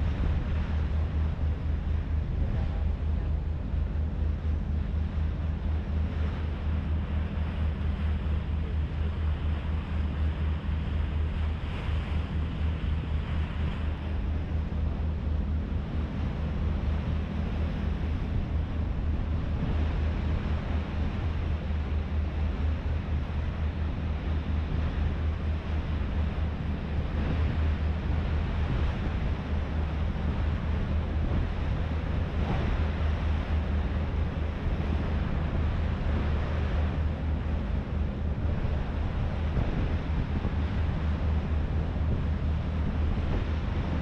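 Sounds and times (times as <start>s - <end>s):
ferry engine droning: 0.0s - 44.0s
wind and water rushing: 0.0s - 44.0s.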